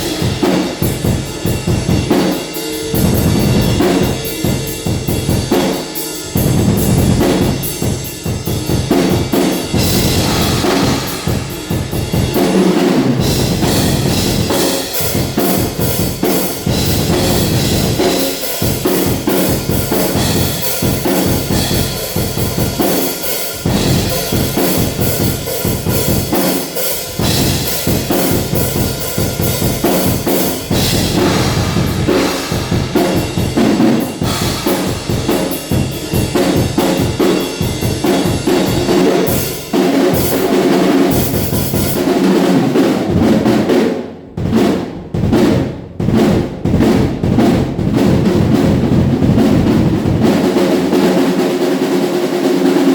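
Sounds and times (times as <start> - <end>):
acoustic drum kit playing: 0.0 - 52.9.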